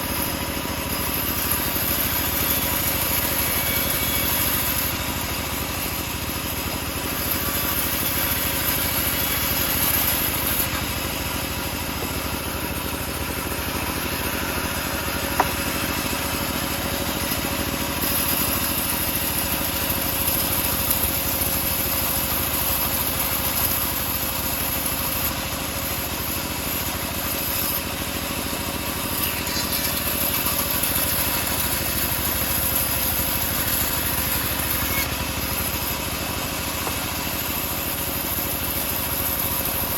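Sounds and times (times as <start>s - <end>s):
bandsaw sawmill cutting wood: 0.0s - 39.9s.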